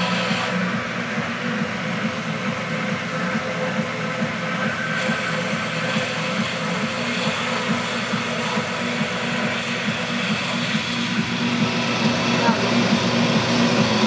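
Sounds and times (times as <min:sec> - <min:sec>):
wood lathe motor hum: 0:00.0 - 0:14.0.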